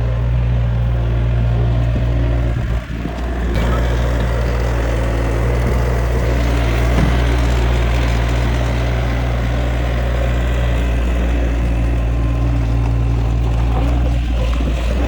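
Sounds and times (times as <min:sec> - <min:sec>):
skid steer engine humming: 0:00.0 - 0:15.0.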